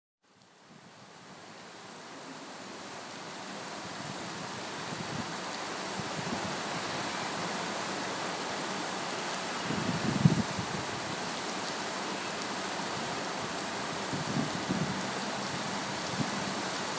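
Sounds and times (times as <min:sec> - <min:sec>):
heavy rain hissing: 0:00.6 - 0:16.9.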